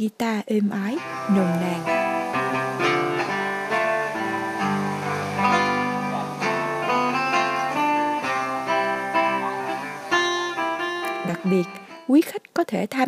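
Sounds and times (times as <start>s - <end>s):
acoustic guitar melody: 0.9s - 12.4s.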